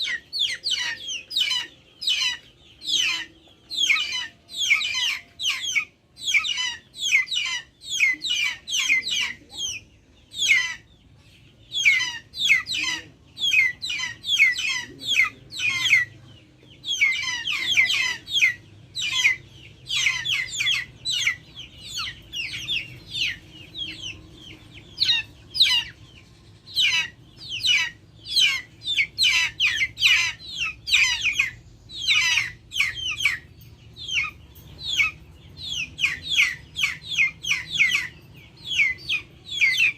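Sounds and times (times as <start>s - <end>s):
chickens peeping chirps: 0.0s - 39.9s.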